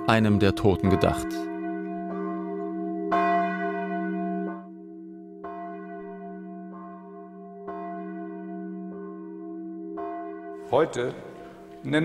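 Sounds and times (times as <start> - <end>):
church bell tolling: 0.0 - 12.0.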